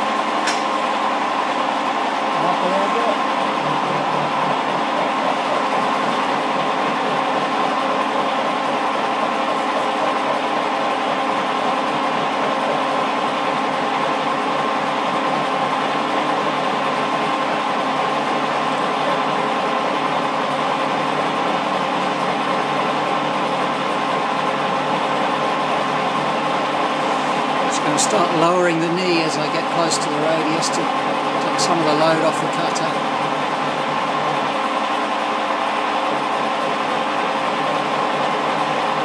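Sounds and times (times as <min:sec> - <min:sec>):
milling machine drone: 0:00.0 - 0:39.0.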